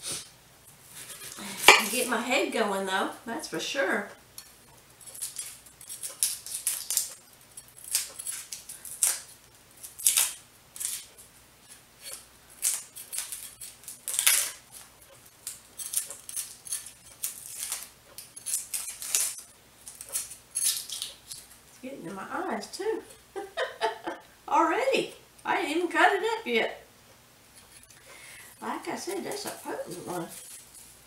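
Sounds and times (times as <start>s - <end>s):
onion skin crackling: 0.9s - 2.9s, 3.8s - 23.9s, 27.5s - 31.0s.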